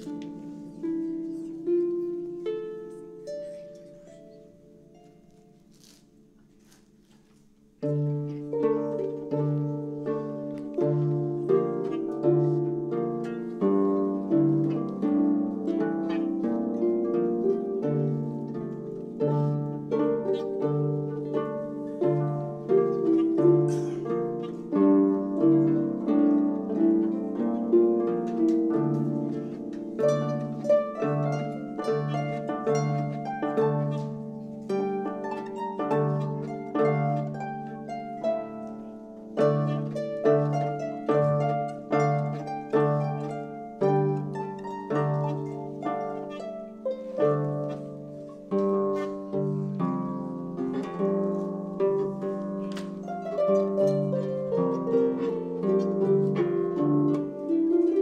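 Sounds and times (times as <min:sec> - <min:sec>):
harps playing chords and melody: 0:00.0 - 0:05.8, 0:07.8 - 0:58.0.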